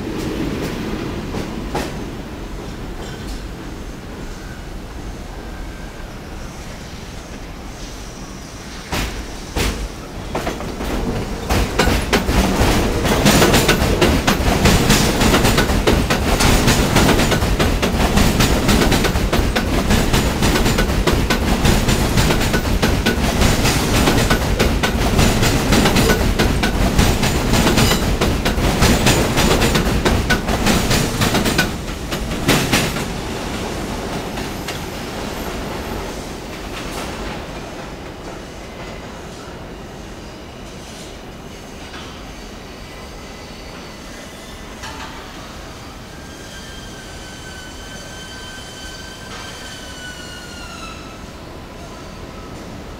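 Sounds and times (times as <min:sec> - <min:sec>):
subway train wheels clattering: 0:00.0 - 0:52.9.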